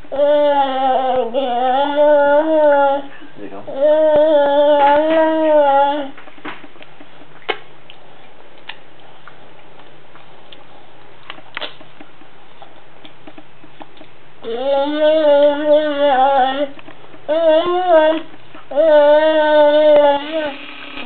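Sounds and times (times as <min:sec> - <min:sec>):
humming yummy eating noises: 0:00.0 - 0:21.0.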